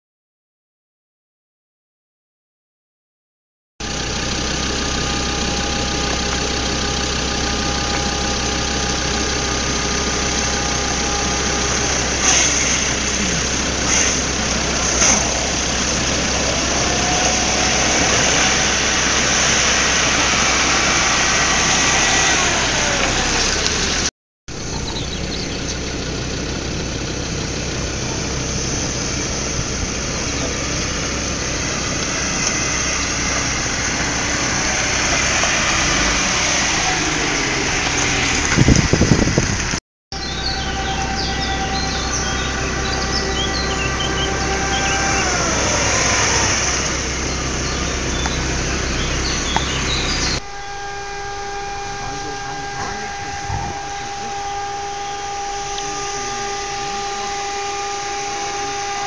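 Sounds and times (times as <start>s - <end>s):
car engine running: 3.8s - 59.0s.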